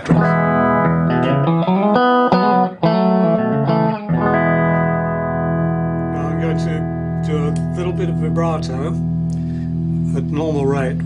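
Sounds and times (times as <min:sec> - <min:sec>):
clean electric guitar chords: 0:00.0 - 0:11.0.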